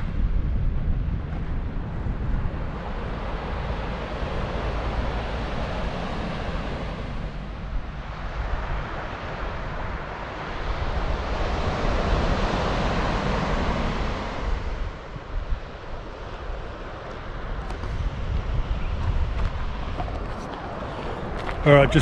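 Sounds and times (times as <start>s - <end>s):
wind buffeting microphone: 0.0s - 22.0s
surf breaking on beach: 1.0s - 22.0s.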